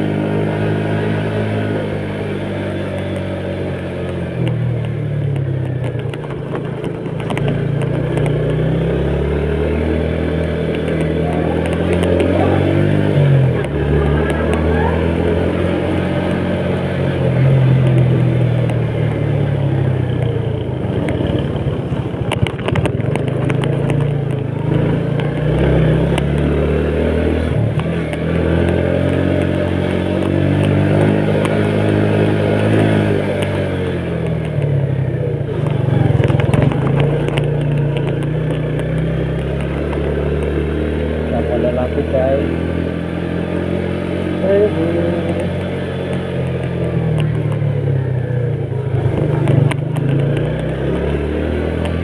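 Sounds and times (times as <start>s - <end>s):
motorcycle engine running: 0.0s - 52.0s
sharp clicks and rattles: 2.3s - 8.8s, 10.1s - 14.7s, 16.2s - 26.7s, 27.4s - 52.0s.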